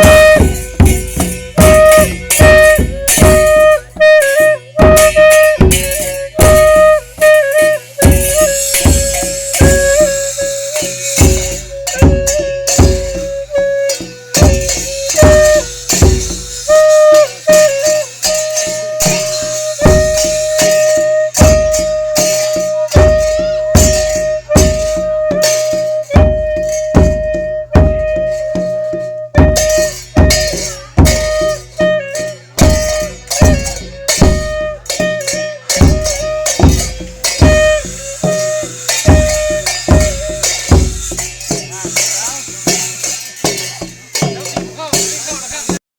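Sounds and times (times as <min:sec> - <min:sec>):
horn holding long notes: 0:00.0 - 0:40.9
cymbals crashing: 0:00.0 - 0:45.8
drum beating: 0:00.0 - 0:45.8.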